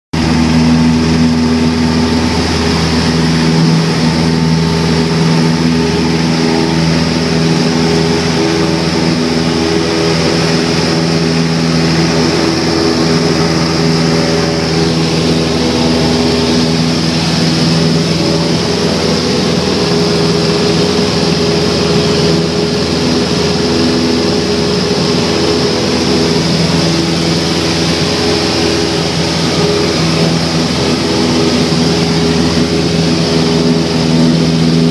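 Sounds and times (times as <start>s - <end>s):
light aircraft engine droning: 0.2s - 34.9s.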